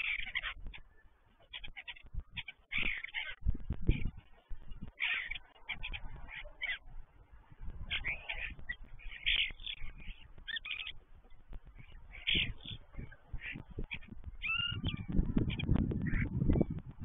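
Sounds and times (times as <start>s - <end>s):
starlings singing: 0.0s - 17.0s.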